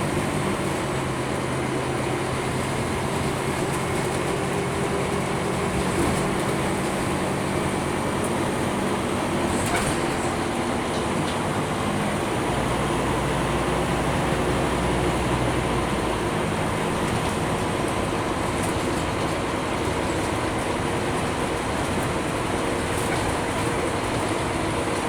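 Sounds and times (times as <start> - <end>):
bus diesel engine: 0.0 - 25.0
road and tyre noise: 0.0 - 25.0.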